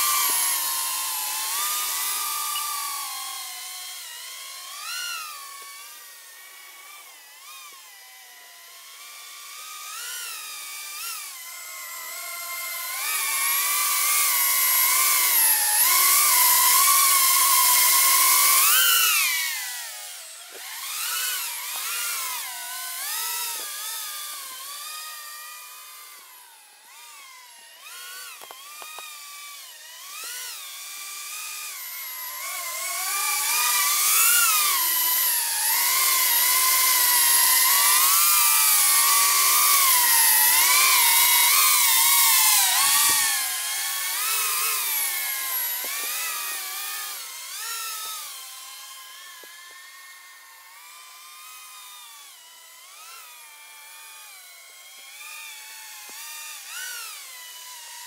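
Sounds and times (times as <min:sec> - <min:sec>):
quadcopter motors whining: 0:00.0 - 0:58.0.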